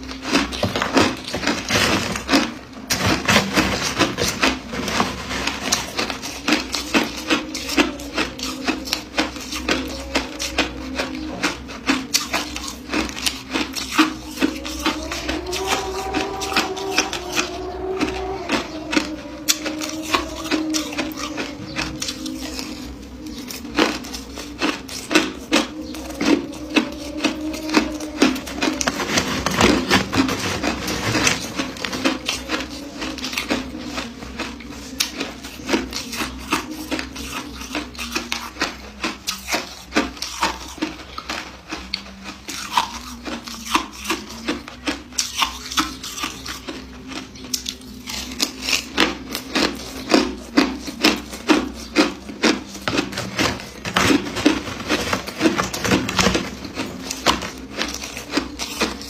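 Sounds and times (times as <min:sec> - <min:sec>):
ice crunching being chewed: 0:00.0 - 0:59.0
steady low hum: 0:00.0 - 0:59.0.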